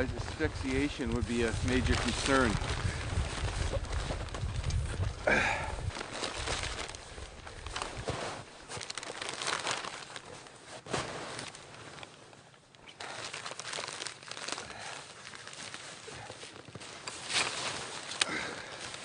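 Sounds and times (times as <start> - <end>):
tent fabric rustling: 0.0 - 19.0.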